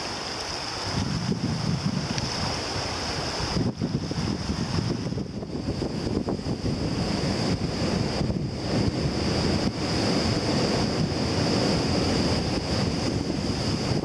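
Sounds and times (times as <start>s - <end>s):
strong wind rushing: 0.8s - 14.0s
wind buffeting microphone: 0.8s - 14.0s.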